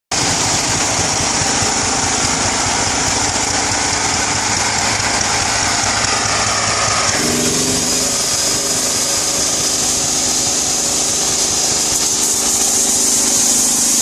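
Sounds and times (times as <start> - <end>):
small engine pulsing: 0.1 - 14.0
spray blast hissing: 0.2 - 14.0.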